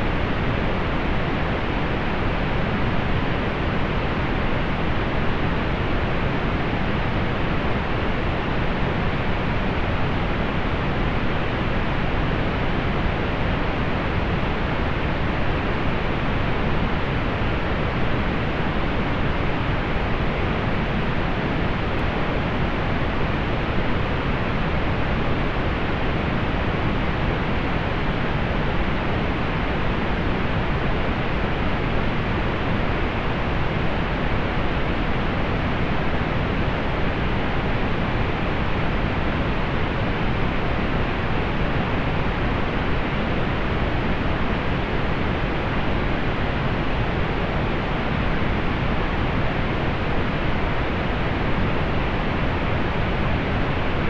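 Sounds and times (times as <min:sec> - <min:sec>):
pink noise: 0:00.0 - 0:54.0.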